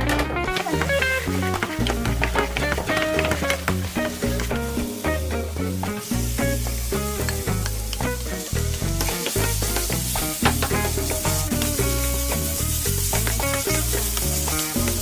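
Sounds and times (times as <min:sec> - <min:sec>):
light background music: 0:00.0 - 0:15.0
food sizzling in a pan: 0:00.6 - 0:15.0.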